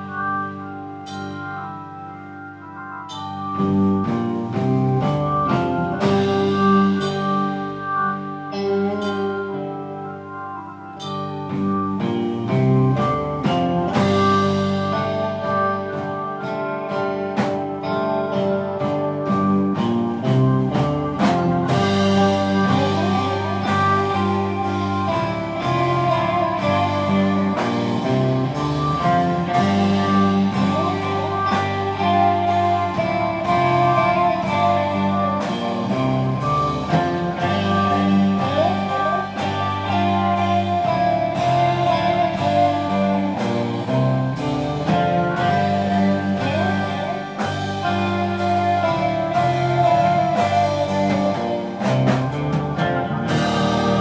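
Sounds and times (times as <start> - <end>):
bass: 0.0 - 54.0
drums keeping steady beat: 0.0 - 54.0
electric guitars: 0.0 - 54.0.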